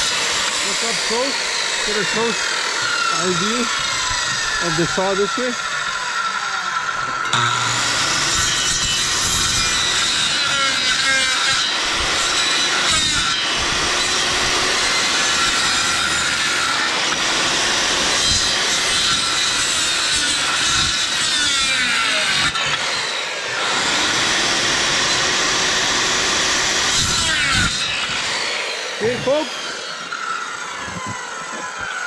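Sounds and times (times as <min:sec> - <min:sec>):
circular saw cutting bone: 0:00.0 - 0:32.0.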